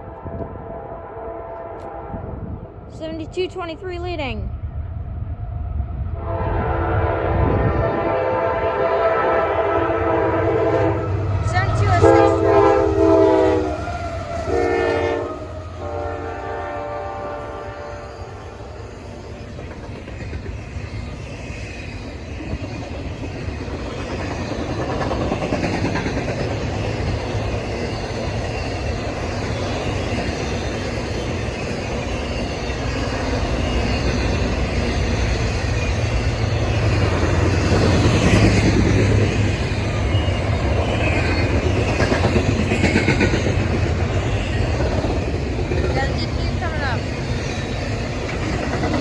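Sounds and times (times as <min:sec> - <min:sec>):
freight train wheels on rails: 0:00.0 - 0:49.0.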